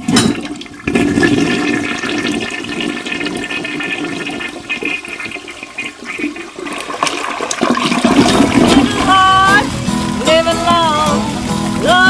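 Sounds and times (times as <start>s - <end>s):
toilet flushing: 0.0s - 12.0s.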